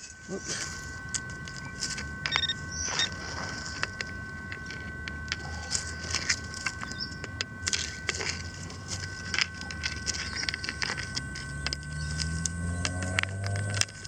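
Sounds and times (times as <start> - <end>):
faint steady high tones: 0.0 - 14.0
hand digger scraping soil: 0.0 - 14.0.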